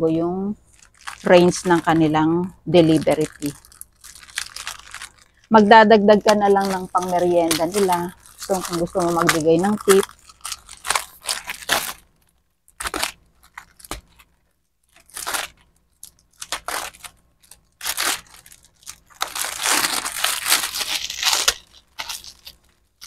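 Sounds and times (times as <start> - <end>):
plastic sack tearing: 0.6 - 22.8
plastic rustling: 0.6 - 23.0.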